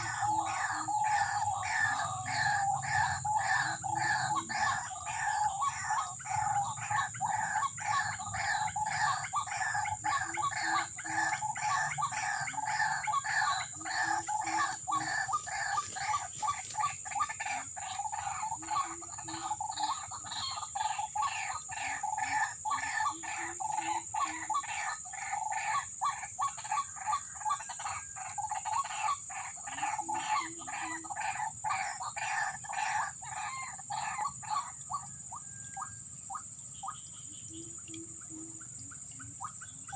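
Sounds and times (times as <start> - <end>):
recorded bird calls through speaker: 0.0 - 39.9.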